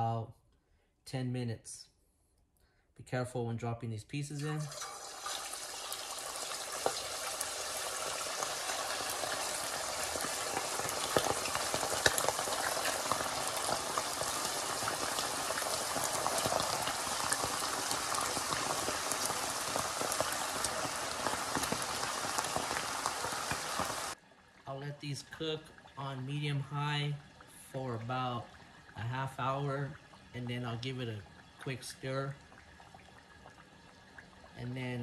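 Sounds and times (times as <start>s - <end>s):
pork frying in lard: 4.3s - 35.0s.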